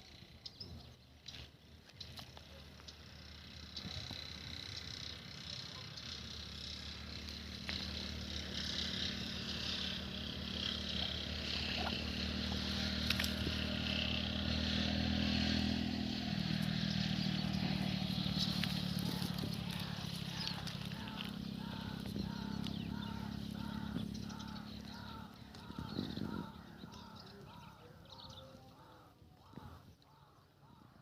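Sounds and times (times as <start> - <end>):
motor engine humming: 1.9 - 29.8.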